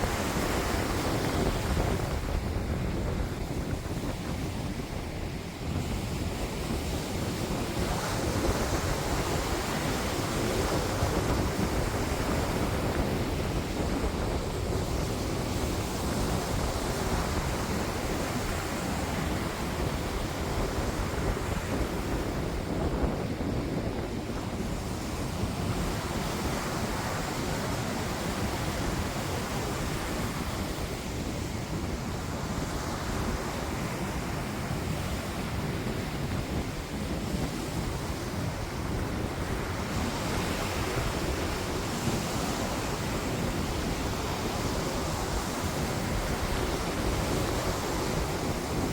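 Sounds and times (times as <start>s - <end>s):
sea waves: 0.0s - 48.9s
wind buffeting microphone: 0.0s - 48.9s.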